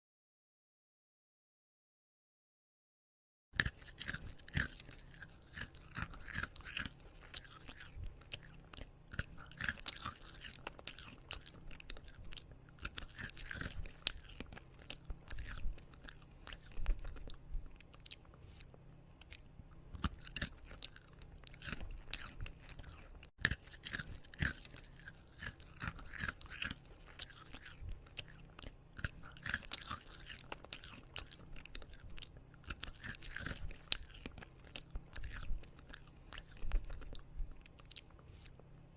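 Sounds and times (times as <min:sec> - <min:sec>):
person chewing crunchy food: 0:03.6 - 0:38.9.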